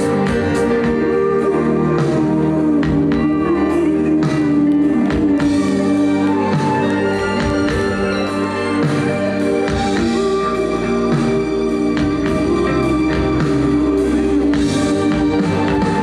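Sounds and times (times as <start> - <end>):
person singing through pa: 0.0 - 8.2, 9.1 - 16.0
live pop-rock band: 0.0 - 16.0.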